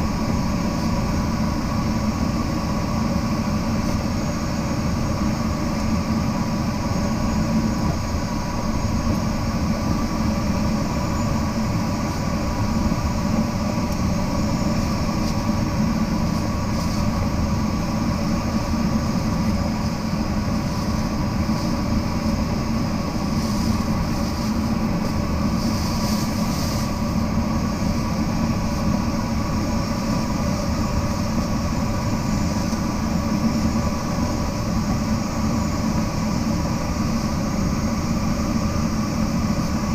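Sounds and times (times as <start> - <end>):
rushing airflow in cockpit: 0.0 - 39.9
steady hums: 0.0 - 39.9.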